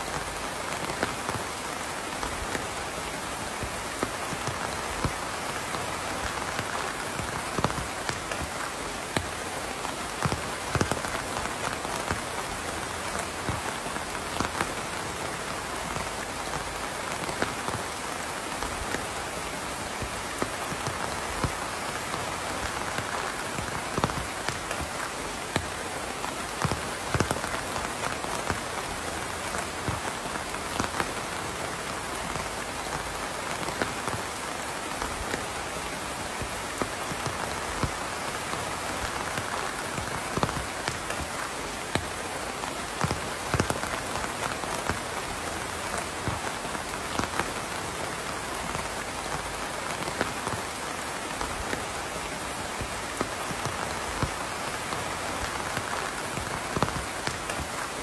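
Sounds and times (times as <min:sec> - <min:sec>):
raindrops pattering: 0:00.0 - 0:58.0
steady rain hiss: 0:00.0 - 0:58.0.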